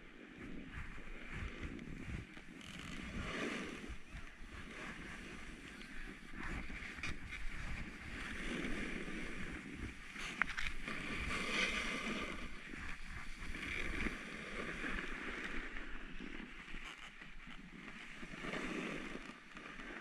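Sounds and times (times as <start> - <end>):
snowboard scraping over snow: 0.2 - 20.0.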